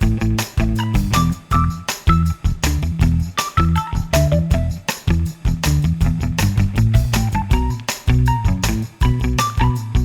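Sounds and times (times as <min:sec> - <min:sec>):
background music with bass: 0:00.0 - 0:10.0.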